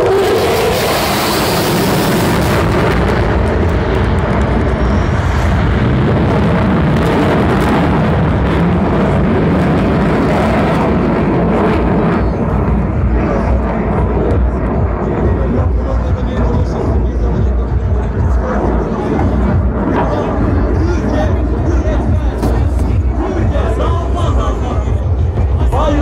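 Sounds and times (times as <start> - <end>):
fighter jet engine roar: 0.0 - 26.0.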